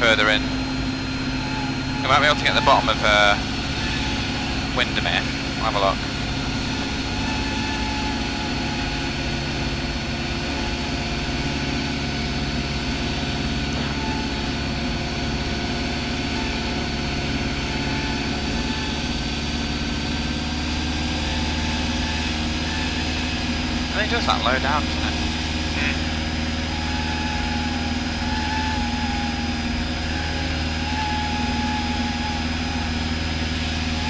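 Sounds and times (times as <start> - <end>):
propeller plane engine droning: 0.0 - 34.0.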